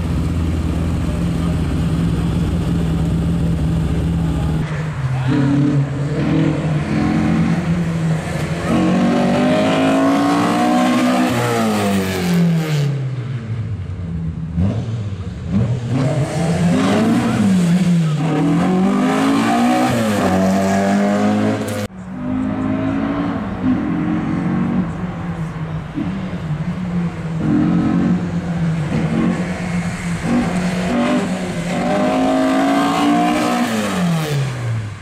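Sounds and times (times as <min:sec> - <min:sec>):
car engine revving: 0:00.0 - 0:13.1, 0:14.4 - 0:35.0.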